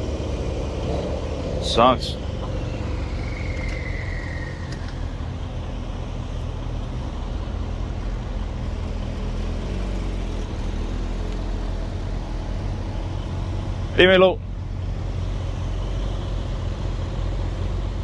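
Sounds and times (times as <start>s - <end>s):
car engine running low revs: 0.0s - 18.0s.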